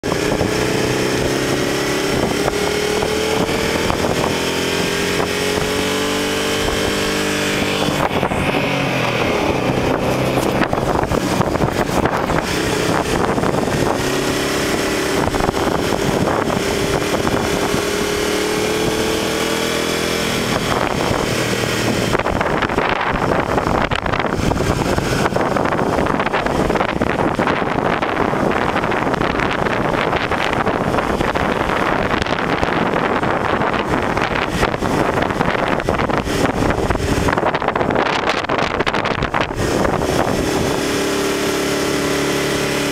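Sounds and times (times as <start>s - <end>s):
motorcycle engine: 0.0s - 42.9s
wind buffeting microphone: 0.0s - 42.9s.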